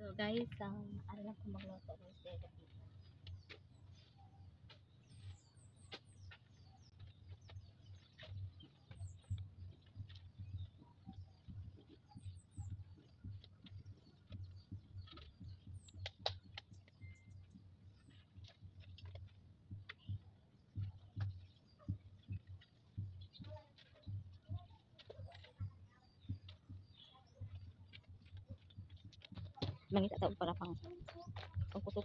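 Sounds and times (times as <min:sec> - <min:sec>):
small bird chirping: 0:00.8 - 0:32.0.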